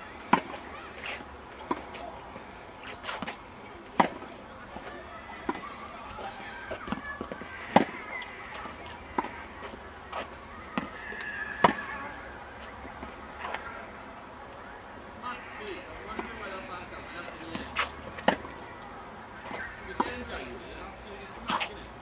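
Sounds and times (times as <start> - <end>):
tennis balls bouncing on court: 0.2 - 14.6, 15.3 - 21.8
tennis balls struck by rackets: 0.2 - 21.9.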